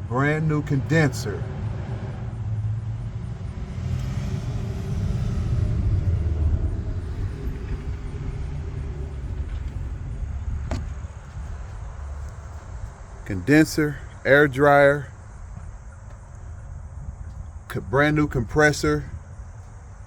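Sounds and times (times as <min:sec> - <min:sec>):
low vehicle rumble: 0:00.0 - 0:20.0.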